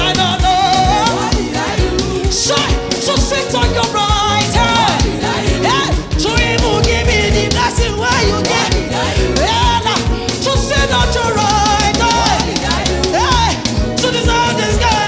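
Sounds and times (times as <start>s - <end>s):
bass: 0.0s - 15.0s
gospel band music: 0.0s - 15.0s
people singing: 0.0s - 15.0s
steady drum beat: 0.0s - 15.0s.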